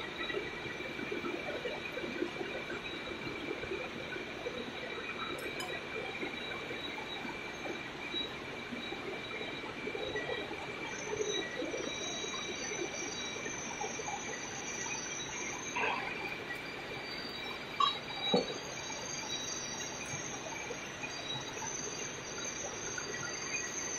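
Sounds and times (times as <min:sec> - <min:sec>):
machinery hum and whine: 0:00.0 - 0:23.9.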